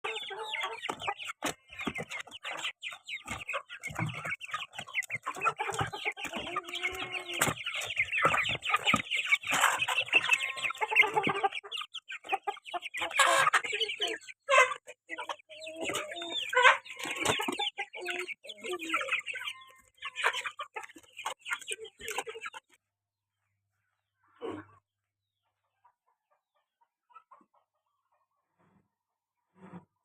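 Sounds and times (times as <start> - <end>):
chickens clucking: 0.0 - 22.8, 23.4 - 30.0.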